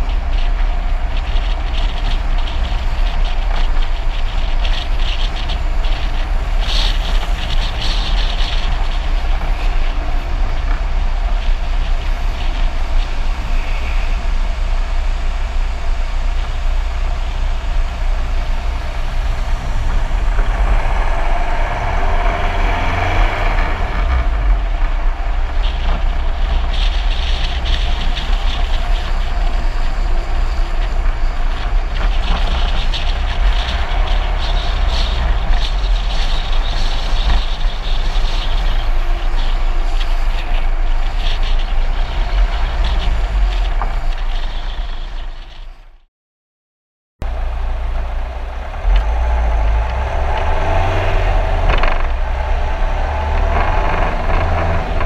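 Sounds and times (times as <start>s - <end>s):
wind buffeting microphone: 0.0s - 45.7s
road and tyre rumble: 0.0s - 46.1s, 47.2s - 55.0s.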